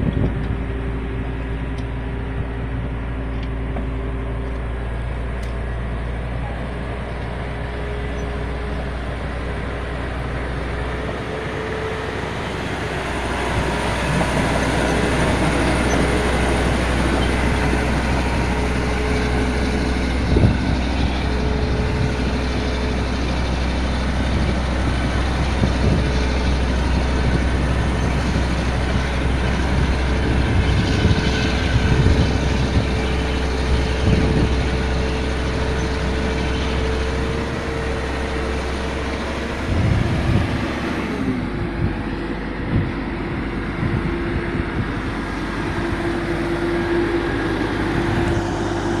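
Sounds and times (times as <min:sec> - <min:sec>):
bulldozer diesel engine: 0:00.0 - 0:49.0
steady whine: 0:00.0 - 0:49.0.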